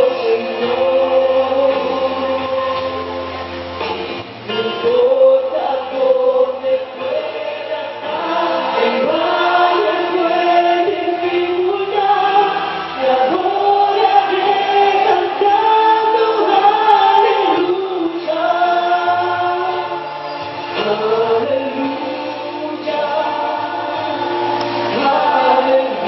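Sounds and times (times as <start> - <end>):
woman singing into microphone: 0.0 - 3.5, 4.5 - 26.0.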